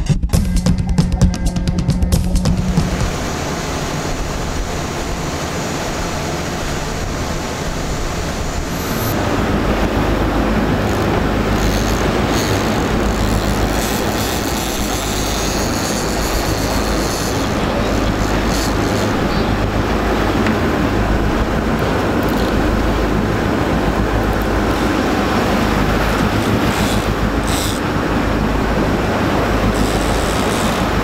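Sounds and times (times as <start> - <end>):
boat engine drone: 0.3 - 31.0
rush of churning wake: 2.6 - 31.0.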